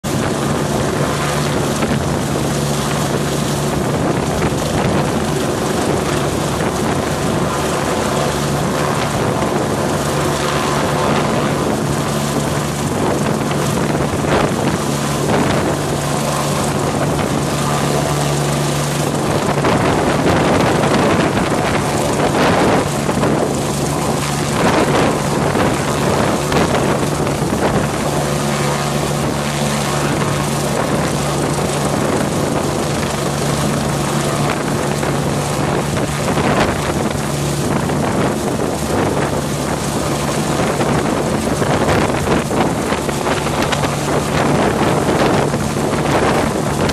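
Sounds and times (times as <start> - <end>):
helicopter rotor and engine: 0.0 - 46.9
wind blowing on microphone: 0.0 - 46.9.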